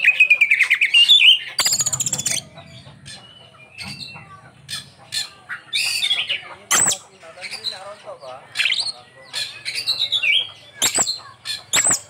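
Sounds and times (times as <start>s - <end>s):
bird singing varied song: 0.0s - 12.0s.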